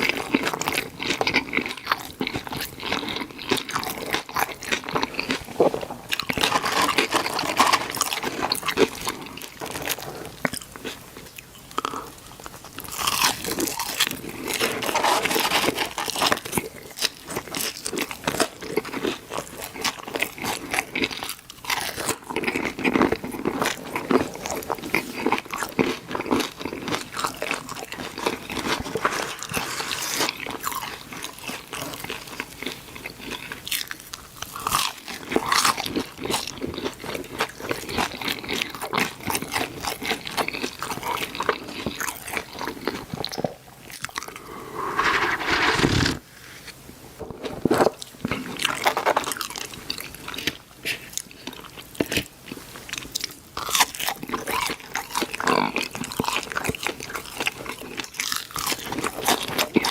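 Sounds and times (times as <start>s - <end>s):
person chewing crunchy food: 0.0s - 46.3s, 47.2s - 59.9s.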